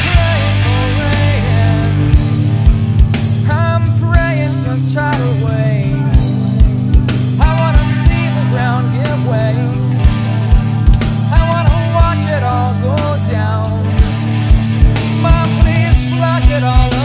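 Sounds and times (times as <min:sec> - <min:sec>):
person singing: 0:00.0 - 0:02.4, 0:03.4 - 0:06.8, 0:07.4 - 0:10.6, 0:11.2 - 0:14.0, 0:15.0 - 0:17.0
drums: 0:00.0 - 0:17.0
hard rock music: 0:00.0 - 0:17.0.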